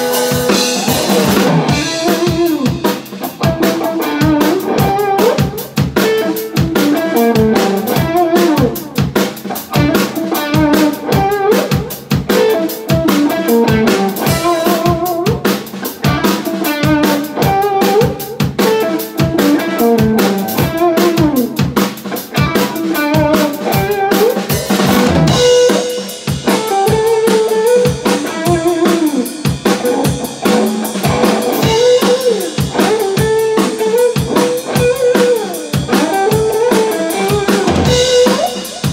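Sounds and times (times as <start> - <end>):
drum kit beat: 0.0 - 38.9
electric guitar lead: 0.0 - 38.9.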